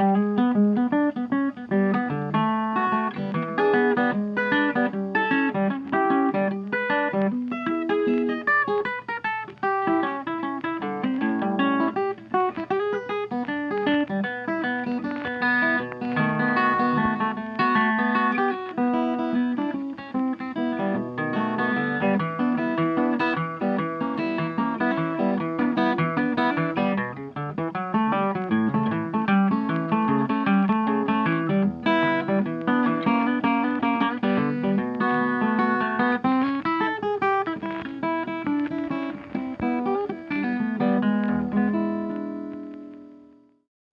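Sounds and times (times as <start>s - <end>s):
blues music with plucked guitar: 0.0s - 43.7s.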